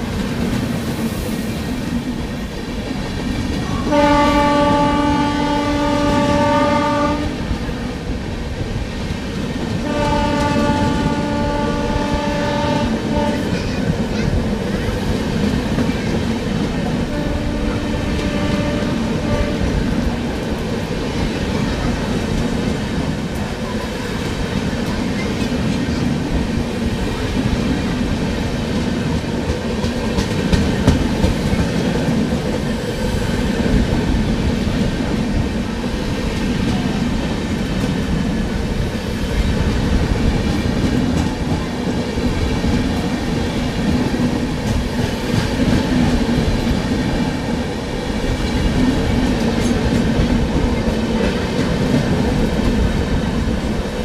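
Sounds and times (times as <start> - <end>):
train wheels rumbling clickety-clack: 0.0 - 54.0.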